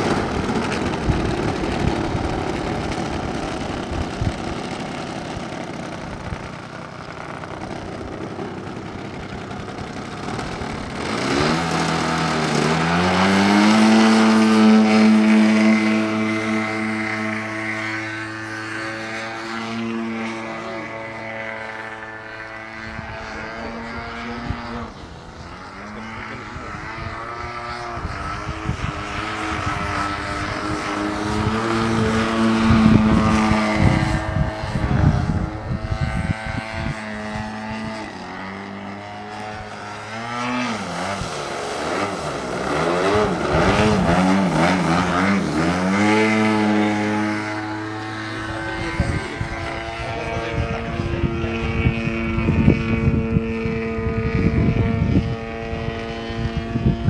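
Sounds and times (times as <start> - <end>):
model airplane engine: 0.0 - 57.0.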